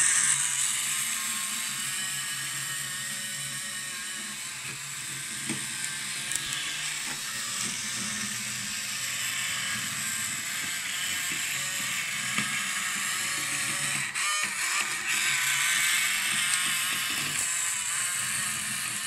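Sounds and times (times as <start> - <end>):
small electric motor whirring: 0.0 - 19.0.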